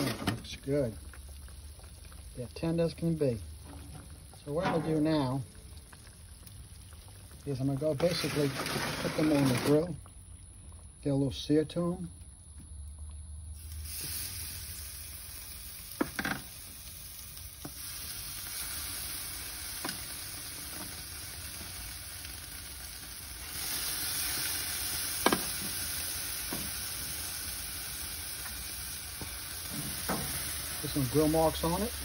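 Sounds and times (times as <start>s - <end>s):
ribs sizzling on a grill: 0.0s - 10.3s, 13.5s - 32.0s.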